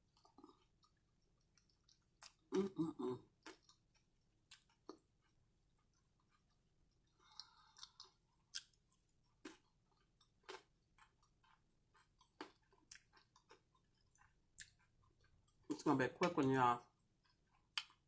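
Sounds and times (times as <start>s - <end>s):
faint close-up chewing: 0.0s - 18.0s.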